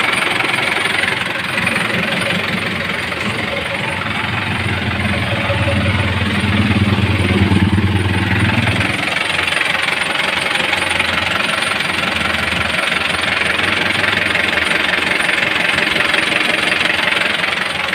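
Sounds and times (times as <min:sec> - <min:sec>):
diesel engine clattering: 0:00.0 - 0:17.9.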